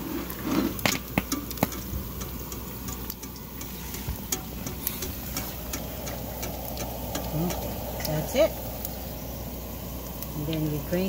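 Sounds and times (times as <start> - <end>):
eggs frying in crackling oil: 0.0 - 11.0
oil popping: 0.0 - 11.0.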